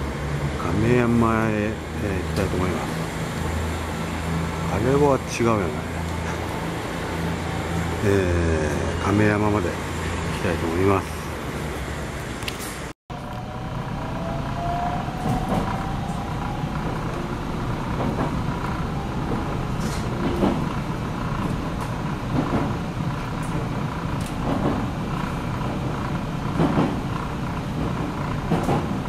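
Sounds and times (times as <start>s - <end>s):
train running gear rumble: 0.0s - 29.0s.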